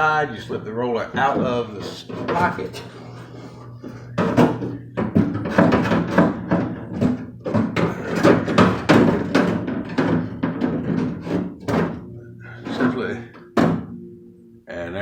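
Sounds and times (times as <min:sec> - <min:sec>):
metal window regulator clanking: 0:00.5 - 0:14.0.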